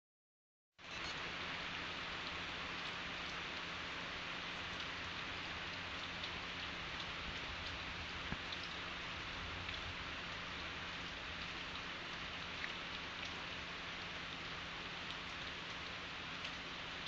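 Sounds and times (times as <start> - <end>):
steady rain falling: 0.8 - 17.0
raindrop ticks: 2.1 - 17.0.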